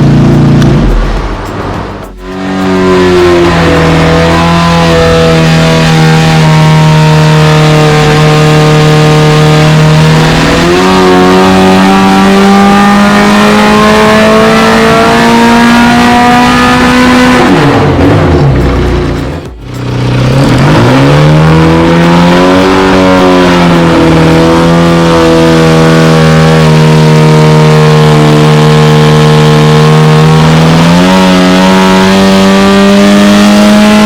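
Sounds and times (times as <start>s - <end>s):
race engine at high revs: 0.0s - 34.0s.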